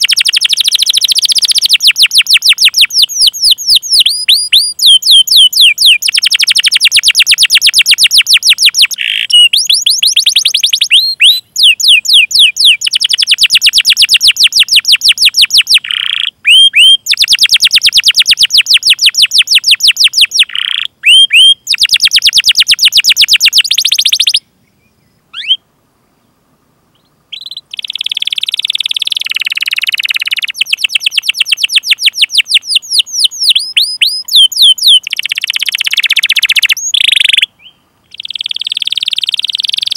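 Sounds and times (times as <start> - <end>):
canary buzzy rolling trill: 0.0 - 24.4, 27.3 - 37.5
canary chirping: 0.0 - 24.4, 25.3 - 25.6, 27.0 - 37.5, 38.1 - 39.9.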